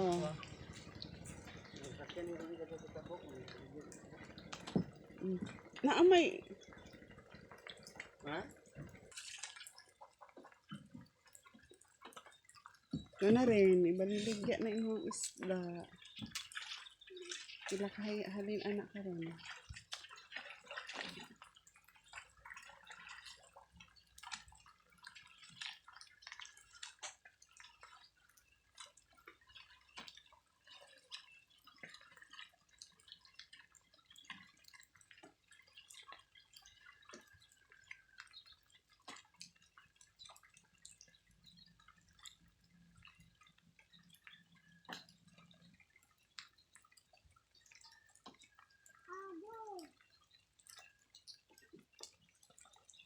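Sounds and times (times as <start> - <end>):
faint water drips: 0.0 - 53.0.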